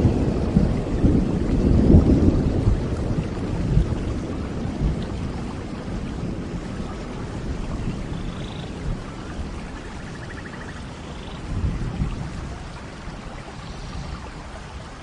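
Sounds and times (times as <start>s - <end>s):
rolling thunder rumble: 0.0s - 15.0s
steady rainfall: 0.0s - 15.0s.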